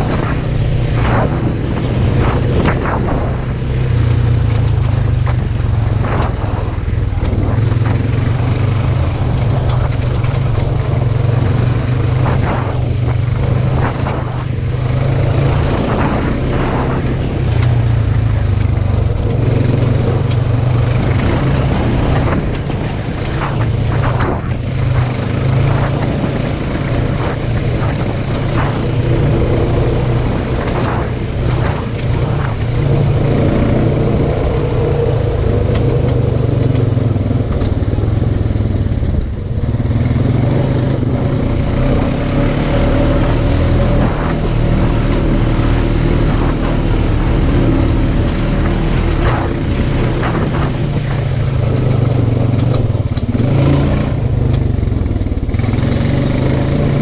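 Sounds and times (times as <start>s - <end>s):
knocks and rattles: 0.0s - 57.0s
vehicle engine running: 0.0s - 57.0s.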